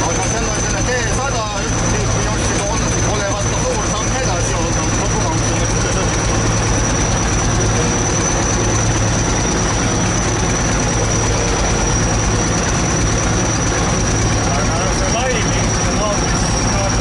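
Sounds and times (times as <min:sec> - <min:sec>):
bulldozer diesel engine running: 0:00.0 - 0:17.0
thin high whine: 0:00.0 - 0:17.0.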